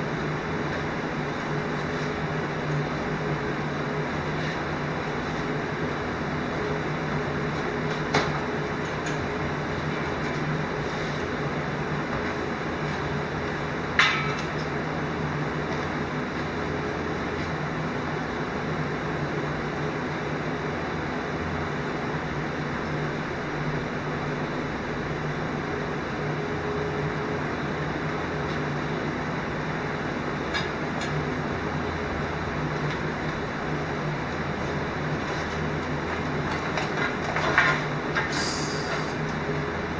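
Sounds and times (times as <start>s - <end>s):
mechanical hum and hiss: 0.0s - 39.9s.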